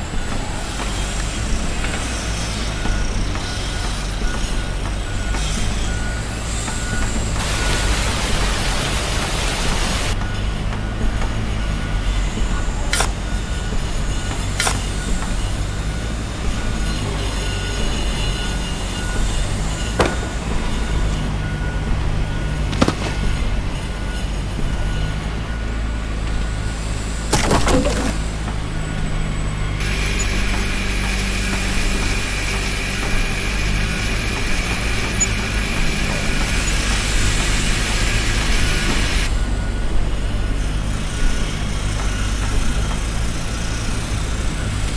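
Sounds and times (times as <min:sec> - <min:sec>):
heavy engine droning: 0:00.0 - 0:44.9.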